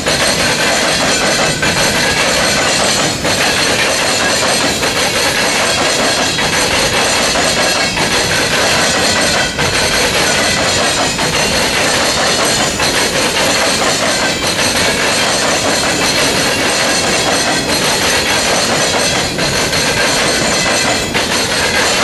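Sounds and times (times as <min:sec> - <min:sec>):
train wheels clattering over crossing: 0:00.0 - 0:22.0.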